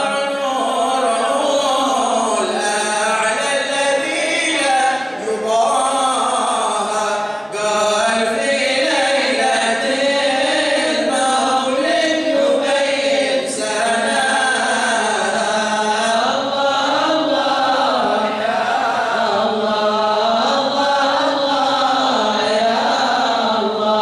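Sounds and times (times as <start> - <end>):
men chanting together: 0.0 - 24.0.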